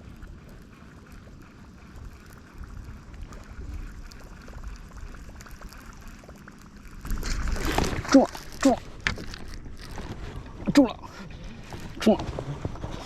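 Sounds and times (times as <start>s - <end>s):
faint small ticks and clicks: 0.0s - 12.3s
wind rumbling on microphone: 0.0s - 13.0s.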